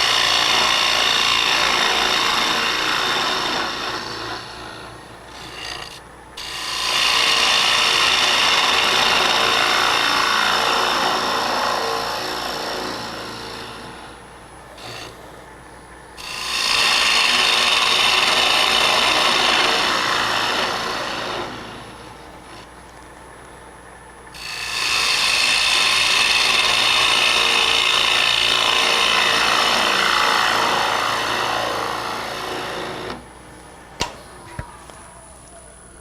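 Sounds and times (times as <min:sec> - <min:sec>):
lathe tool scraping wood: 0:00.0 - 0:23.1, 0:24.3 - 0:33.4
lathe running: 0:00.0 - 0:34.0.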